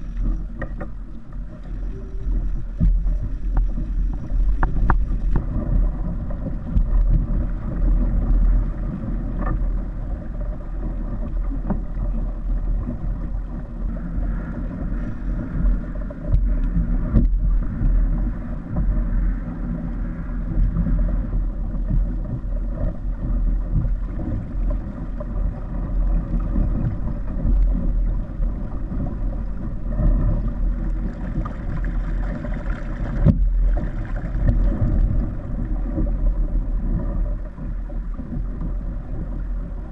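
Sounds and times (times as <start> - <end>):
water rushing: 0.0 - 39.9
wind buffeting microphone: 0.0 - 39.9.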